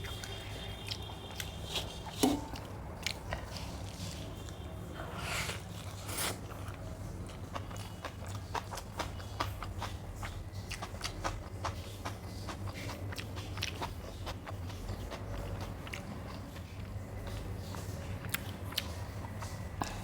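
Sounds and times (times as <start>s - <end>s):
wet chewing and mouth smacks: 0.0s - 4.6s, 5.8s - 20.0s.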